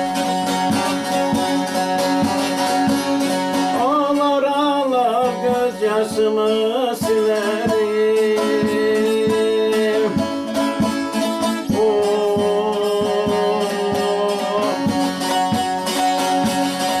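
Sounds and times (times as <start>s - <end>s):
long-necked lute folk melody: 0.0s - 17.0s.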